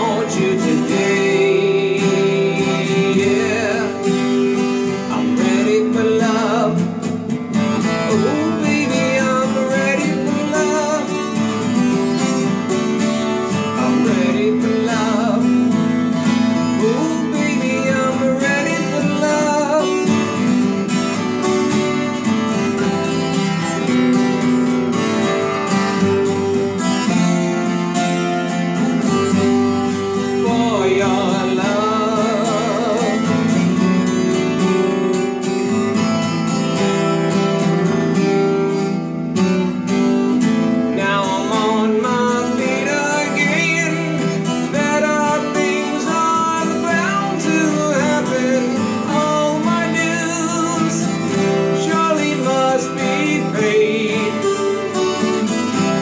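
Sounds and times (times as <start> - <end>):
acoustic guitar playing chords: 0.0 - 56.0.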